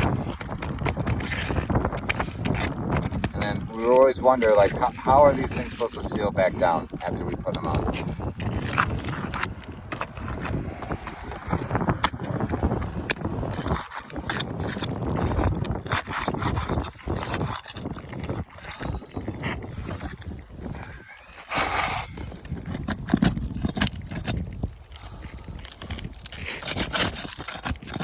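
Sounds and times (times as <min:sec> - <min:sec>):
shingles scraped and torn on roof: 0:00.0 - 0:28.0.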